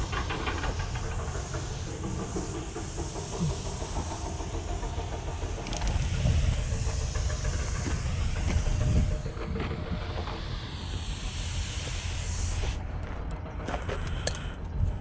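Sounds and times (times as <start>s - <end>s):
spray paint hissing from can: 0.0s - 12.8s
low rumble: 0.0s - 14.0s.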